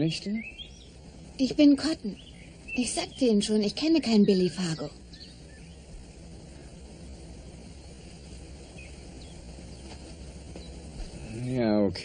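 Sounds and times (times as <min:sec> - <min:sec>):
faint bird chirps: 0:00.0 - 0:11.6
low rumble: 0:00.0 - 0:12.0.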